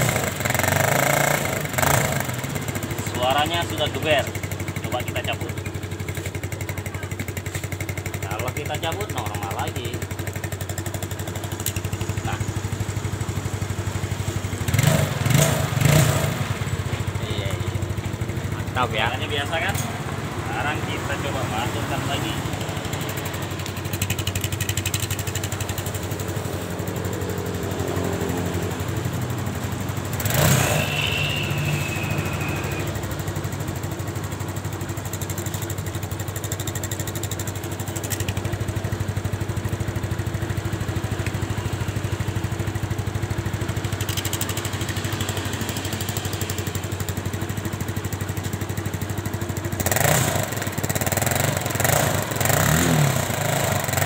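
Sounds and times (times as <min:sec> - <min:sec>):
scooter engine idling and revving: 0:00.0 - 0:54.0.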